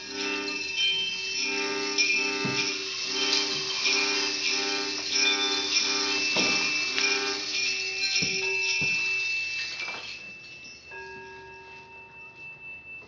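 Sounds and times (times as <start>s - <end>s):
metal chimes ringing: 0.0s - 13.0s.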